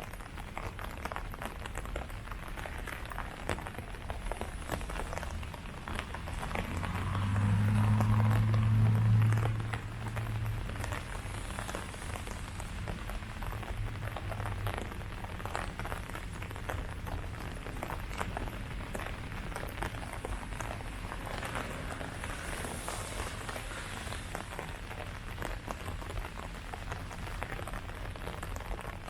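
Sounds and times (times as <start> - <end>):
rain falling on leaves: 0.0 - 29.0.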